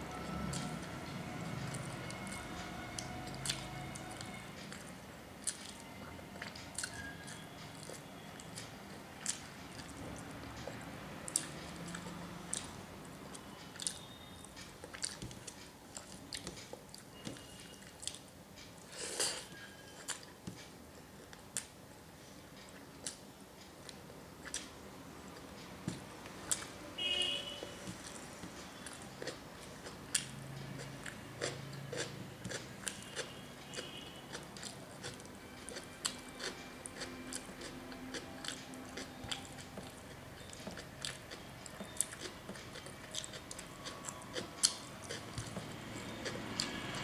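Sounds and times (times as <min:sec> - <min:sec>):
person chewing and lip smacking: 0:00.2 - 0:21.8, 0:22.6 - 0:26.8, 0:27.6 - 0:47.0.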